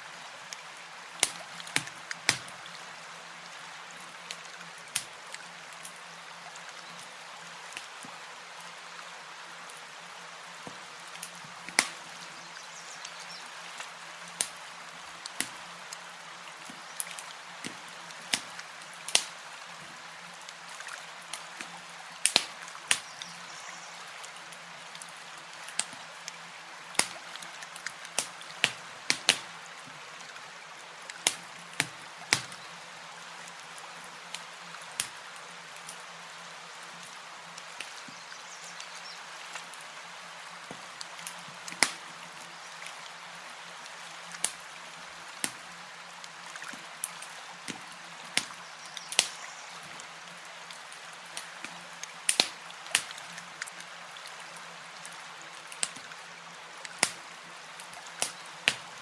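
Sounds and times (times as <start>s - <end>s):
campfire crackling: 0.4s - 59.0s.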